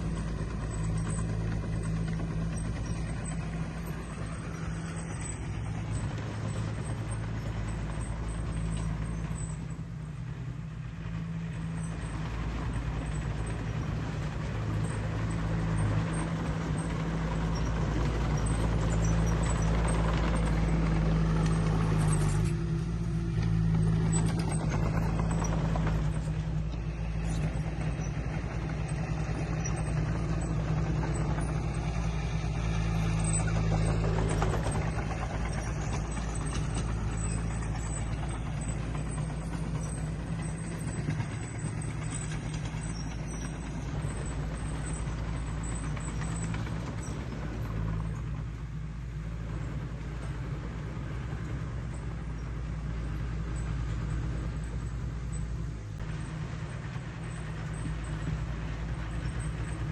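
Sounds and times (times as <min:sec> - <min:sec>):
heavy diesel engine drone: 0:00.0 - 0:59.9.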